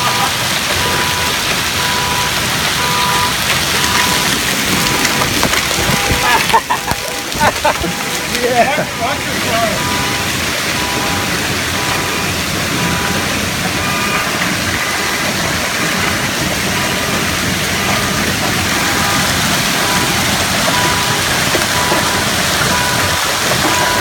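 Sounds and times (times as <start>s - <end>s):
hail and heavy rain roaring: 0.0s - 24.0s.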